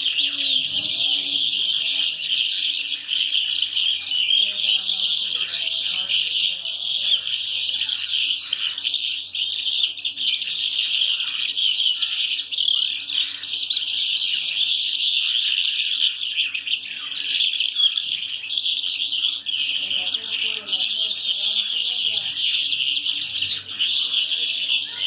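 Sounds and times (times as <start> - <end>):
caged birds twittering: 0.0 - 25.0.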